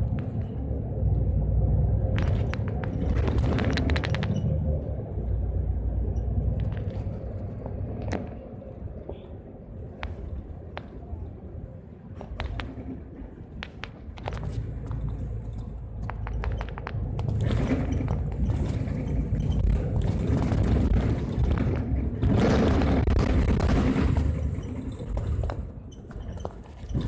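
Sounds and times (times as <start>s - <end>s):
bus engine rumble: 0.0s - 27.0s
road noise: 0.0s - 27.0s.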